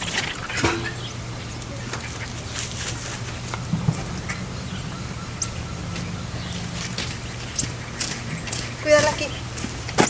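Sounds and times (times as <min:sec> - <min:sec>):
steady low hum: 0:00.0 - 0:09.9
chickens chirping: 0:00.0 - 0:10.0.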